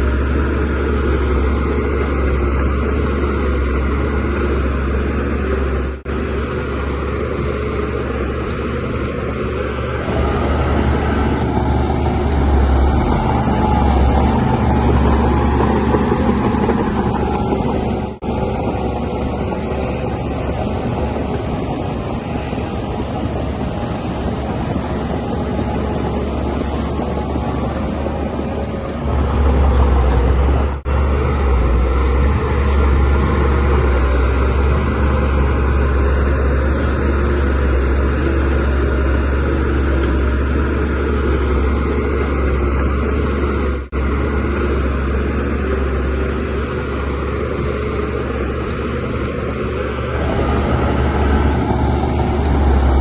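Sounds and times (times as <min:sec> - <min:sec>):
bulldozer diesel engine droning: 0:00.0 - 0:53.0.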